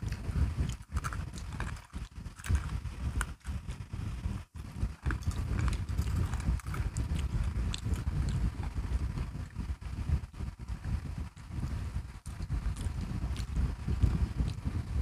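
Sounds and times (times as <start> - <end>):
chewing crunchy biscuit sticks: 0.0 - 15.0.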